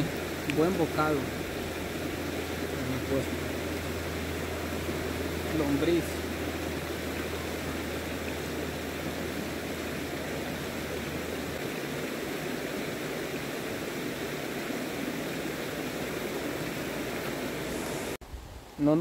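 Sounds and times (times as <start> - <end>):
creek water over rocks: 0.0 - 18.2.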